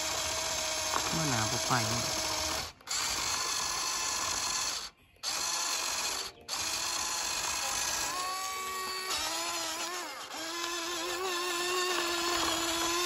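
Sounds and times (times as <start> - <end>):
toy motor whirring: 0.0 - 13.0.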